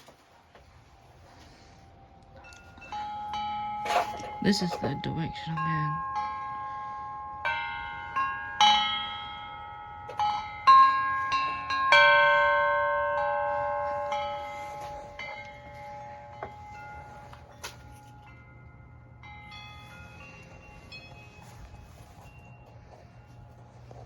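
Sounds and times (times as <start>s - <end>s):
wind chimes ringing: 2.3s - 24.0s.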